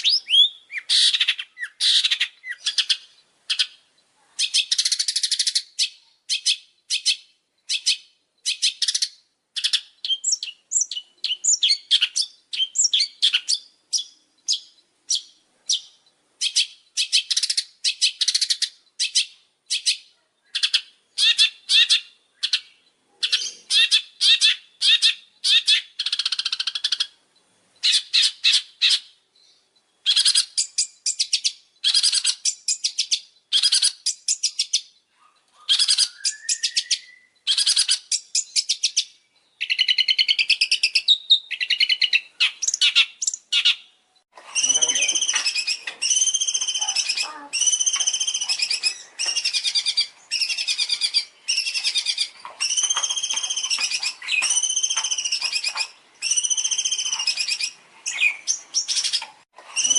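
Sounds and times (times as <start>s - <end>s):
songbird trills and whistles: 0.0s - 3.8s, 4.4s - 27.2s, 27.8s - 43.9s, 44.5s - 59.9s.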